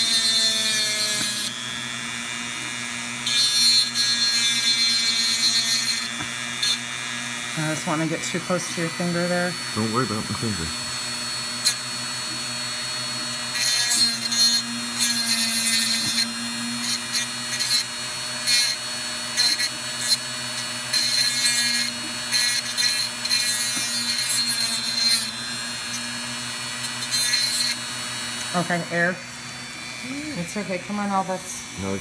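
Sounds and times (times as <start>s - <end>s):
high-pitched grinding: 0.0s - 32.0s
rotary tool running: 0.0s - 32.0s.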